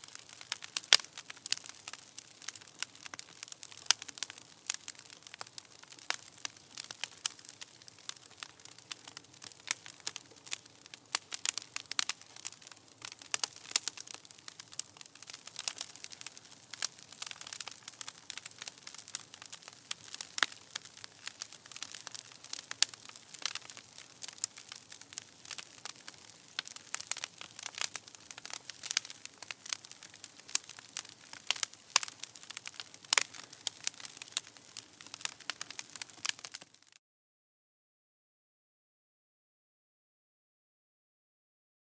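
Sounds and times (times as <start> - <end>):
bonfire crackling and popping: 0.0 - 37.0.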